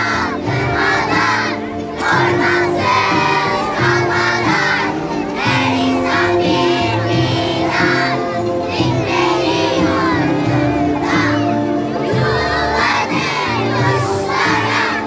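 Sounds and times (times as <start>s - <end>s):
children singing together: 0.0s - 15.0s
music with held notes: 0.0s - 15.0s.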